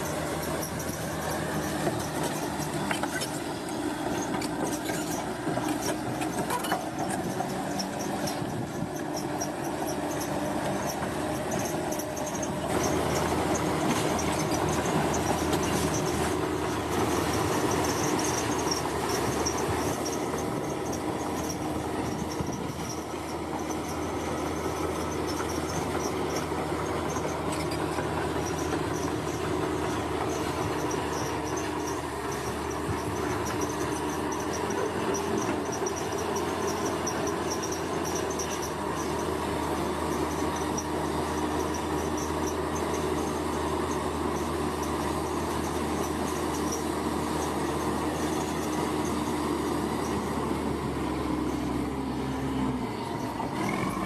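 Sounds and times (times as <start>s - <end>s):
construction machinery engine drone: 0.0s - 54.0s.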